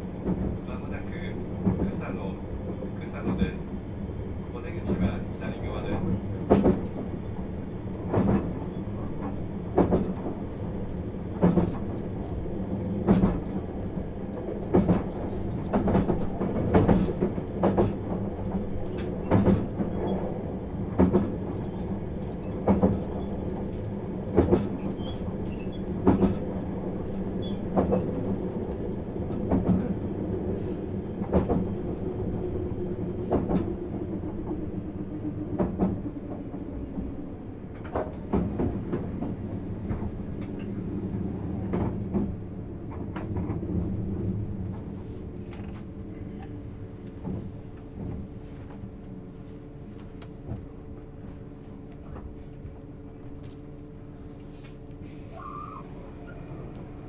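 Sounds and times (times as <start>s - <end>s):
train running rumble and hum: 0.0s - 57.0s.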